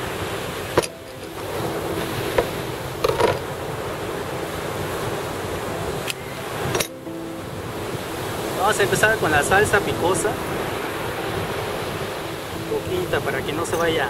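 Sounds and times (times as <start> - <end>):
ocean surf: 0.0 - 14.0
wind on microphone: 0.0 - 14.0.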